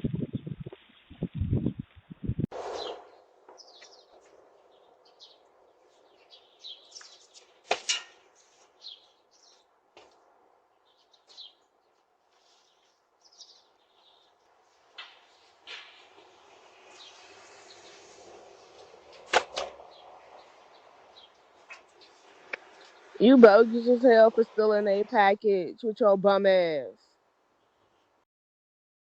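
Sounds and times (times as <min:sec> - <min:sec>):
birds chirping: 0:02.6 - 0:27.0.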